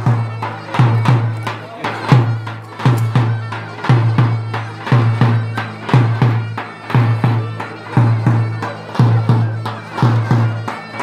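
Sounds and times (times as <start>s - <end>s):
wind instrument melody: 0.0s - 11.0s.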